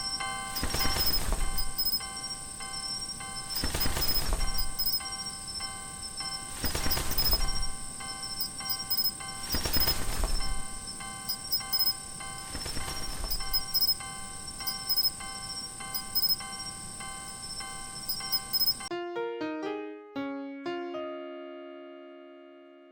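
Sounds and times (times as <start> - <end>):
high insect-like whine: 0.0 - 18.9
level crossing bell ringing: 0.0 - 18.9.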